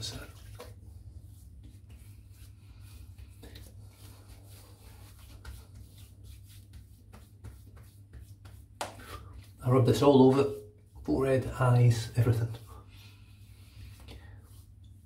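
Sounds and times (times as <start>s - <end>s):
hands rubbing skin: 0.0s - 15.0s.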